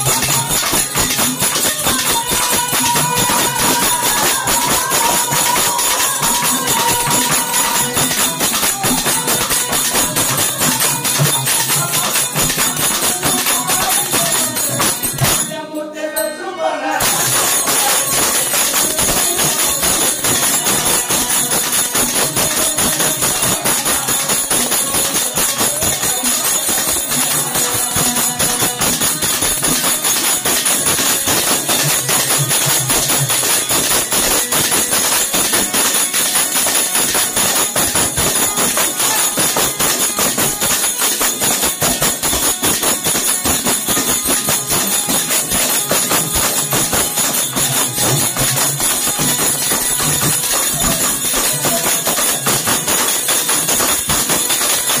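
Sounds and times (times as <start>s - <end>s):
small hand cymbals clashing: 0.0s - 15.5s, 17.0s - 55.0s.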